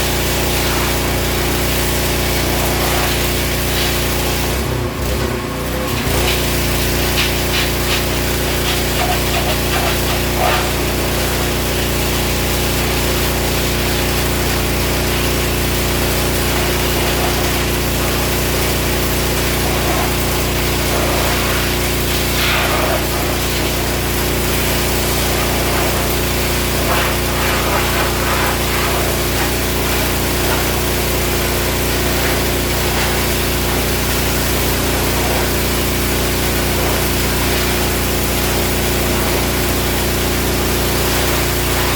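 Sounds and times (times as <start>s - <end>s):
pressure washer spraying: 0.0s - 41.9s.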